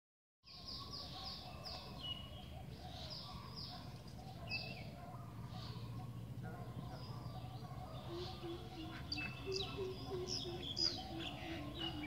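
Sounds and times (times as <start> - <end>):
birds calling with sliding notes: 0.5 - 12.0.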